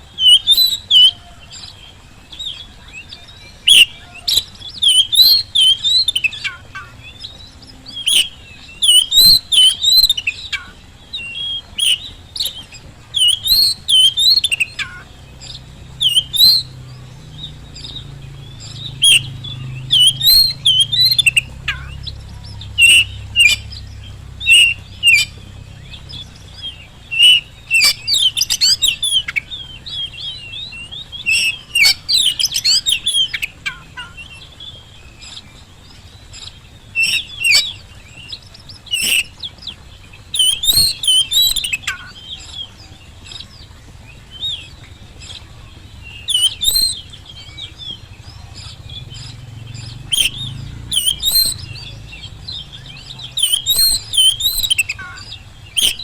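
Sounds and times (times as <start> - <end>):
bird singing whistled phrases: 0.0 - 35.5, 36.1 - 56.0
faint low hum: 0.0 - 56.0.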